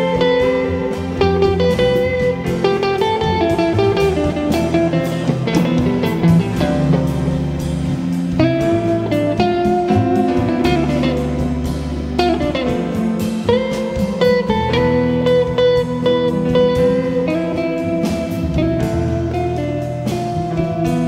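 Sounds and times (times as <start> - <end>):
bass line: 0.0 - 21.0
jazz guitar: 0.0 - 21.0.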